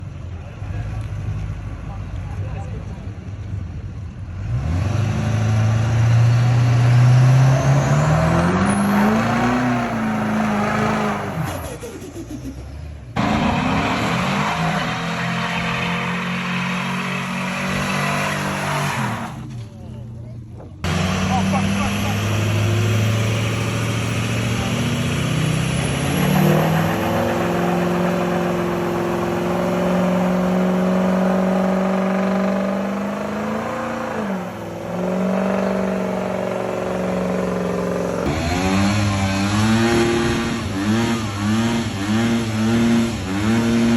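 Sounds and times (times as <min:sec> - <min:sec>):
truck engine revving: 0:04.4 - 0:19.8, 0:20.8 - 0:43.9.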